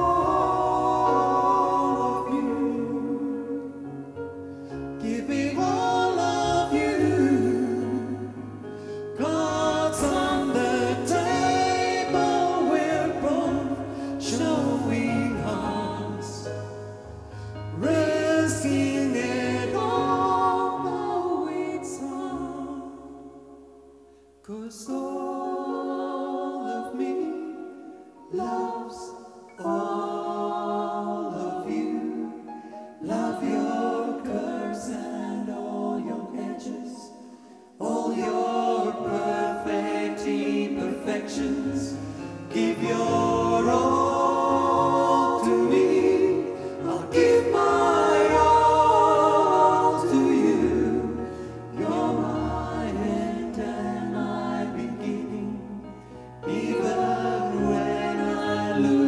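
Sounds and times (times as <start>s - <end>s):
male vocal group singing harmony: 0.0s - 23.6s, 24.4s - 59.0s.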